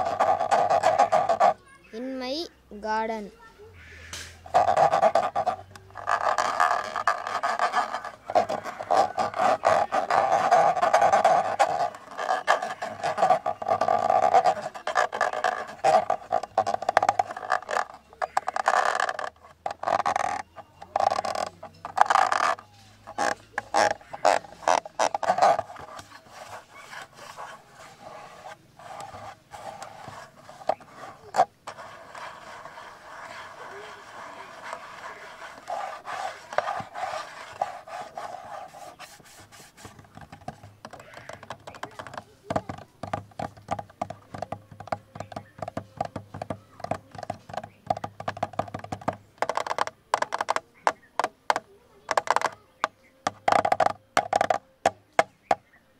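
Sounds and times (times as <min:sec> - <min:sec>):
fingers tapping on camera body: 0:00.0 - 0:01.6, 0:04.1 - 0:55.7
fingers scratching on camera body: 0:00.0 - 0:02.0, 0:04.1 - 0:55.8.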